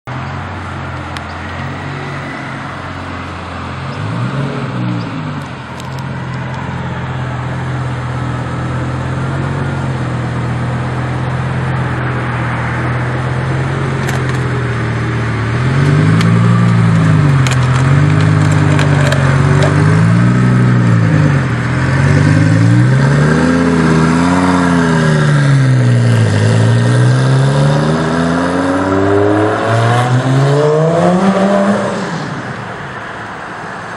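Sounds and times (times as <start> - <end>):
sports car engine revving: 0.6 - 32.7.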